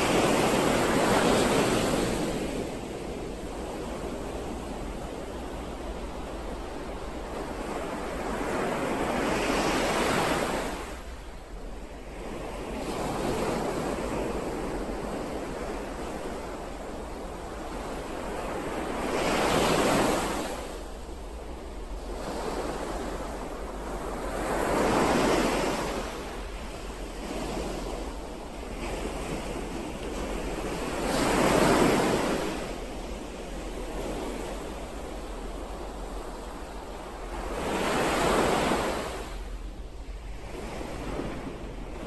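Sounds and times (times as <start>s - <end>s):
ocean waves breaking: 0.0s - 42.0s.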